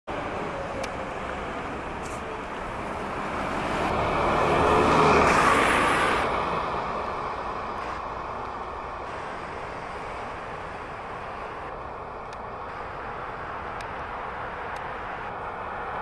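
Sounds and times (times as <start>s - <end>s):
road traffic hum: 0.1s - 16.0s
vehicle passing: 0.1s - 16.0s.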